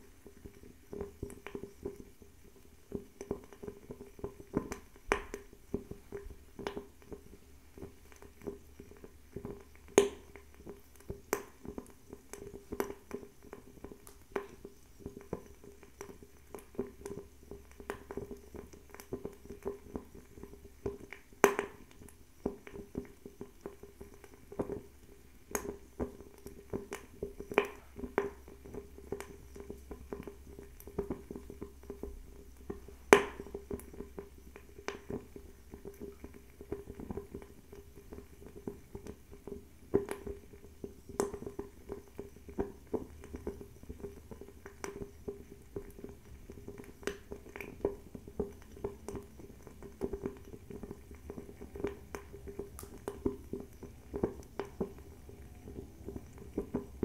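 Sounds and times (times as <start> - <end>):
fireplace crackling: 0.0 - 57.0
low steady hum: 0.0 - 57.0.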